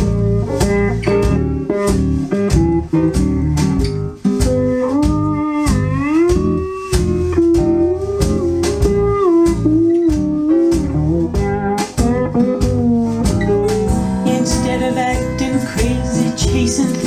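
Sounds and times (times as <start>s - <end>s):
guitar lead sliding between notes: 0.0s - 17.0s
steady beat: 0.0s - 17.0s.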